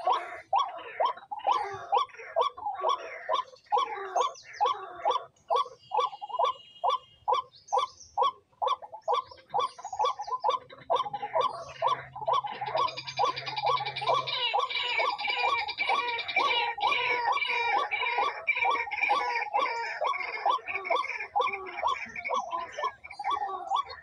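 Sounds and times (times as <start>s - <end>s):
bird calling: 0.0s - 24.0s.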